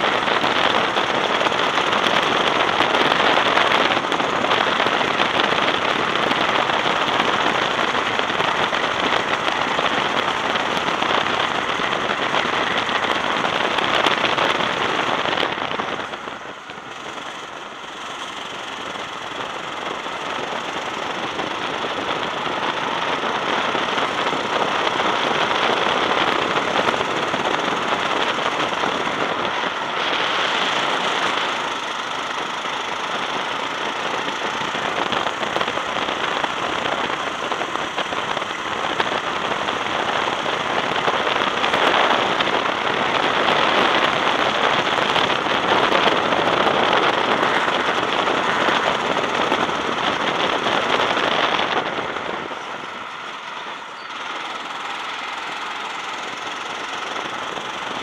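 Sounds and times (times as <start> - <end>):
go-kart engine running: 0.0 - 58.0
wind buffeting microphone: 0.0 - 58.0.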